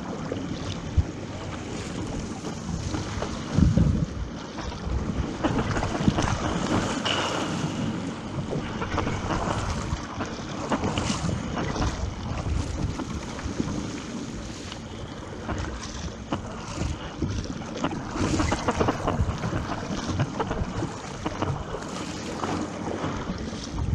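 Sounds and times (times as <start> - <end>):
water rushing and splashing: 0.0 - 23.9
wind buffeting microphone: 0.0 - 23.9.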